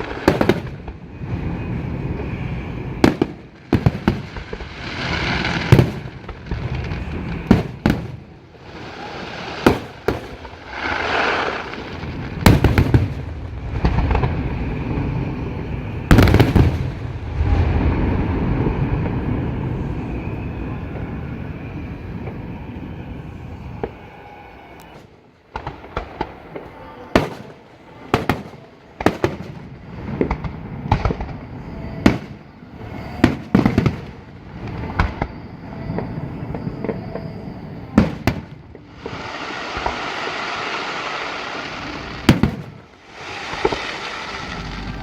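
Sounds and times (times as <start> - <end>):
hissing rush: 0.0 - 28.9, 37.7 - 45.0
fireworks bursting with bangs: 0.0 - 45.0.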